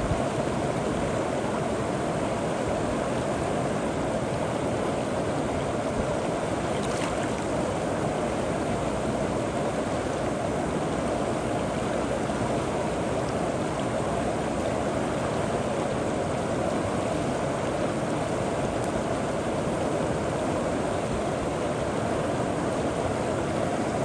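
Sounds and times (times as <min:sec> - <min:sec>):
river water flowing over rocks: 0:00.0 - 0:24.0.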